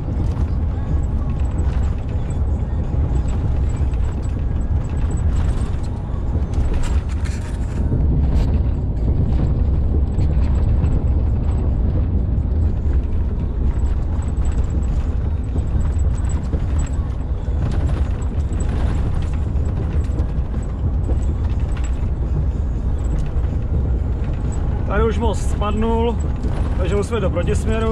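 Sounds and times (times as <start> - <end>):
truck road and engine rumble: 0.0 - 27.9
wheels knocking and rattling: 0.0 - 27.9.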